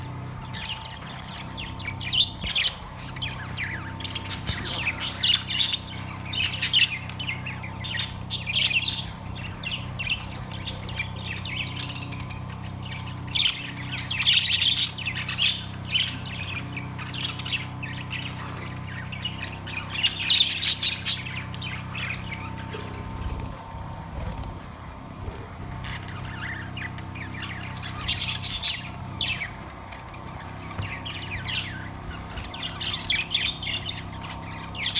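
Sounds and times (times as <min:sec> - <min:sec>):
budgerigars chirping and squawking: 0:00.0 - 0:34.9
steady low hum: 0:00.0 - 0:34.9.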